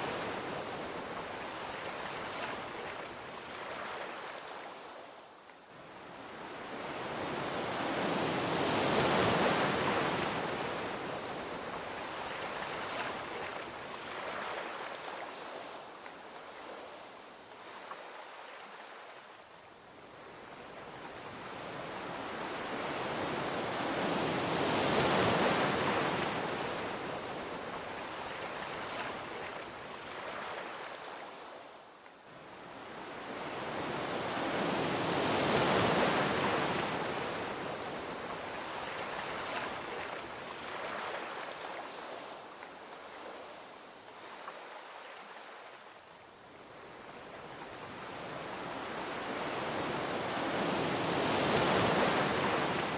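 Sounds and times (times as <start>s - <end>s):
ocean waves washing onto beach: 0.0s - 52.9s.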